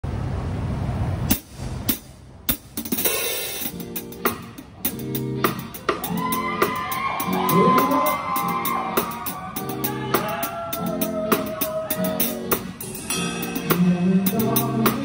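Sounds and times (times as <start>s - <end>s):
drum kit hits: 1.3s - 15.0s
recorded rock song: 2.9s - 15.0s.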